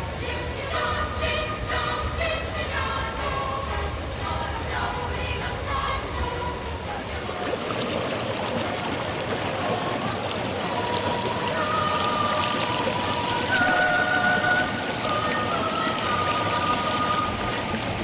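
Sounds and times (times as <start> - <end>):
faint held music tones: 0.0 - 18.0
running water splashing: 0.0 - 18.0.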